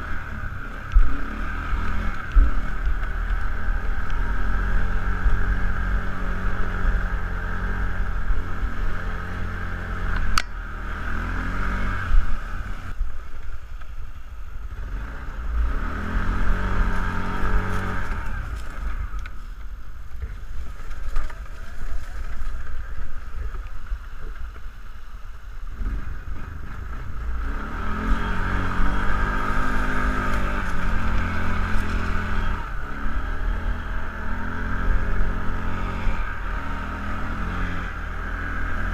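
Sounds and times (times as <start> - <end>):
atv engine revving: 0.0 - 13.0, 14.6 - 38.9.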